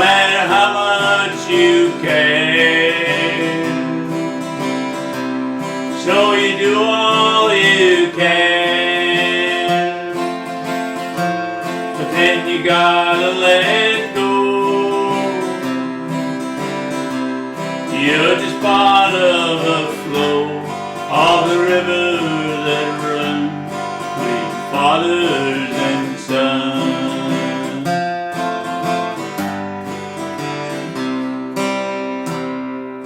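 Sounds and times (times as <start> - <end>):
lead guitar with bending notes: 0.0 - 33.0
strummed acoustic guitar: 0.0 - 33.0.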